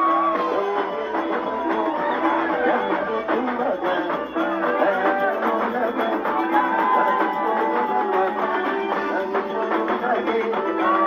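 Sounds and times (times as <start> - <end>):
live band music with plucked melody: 0.0 - 11.0.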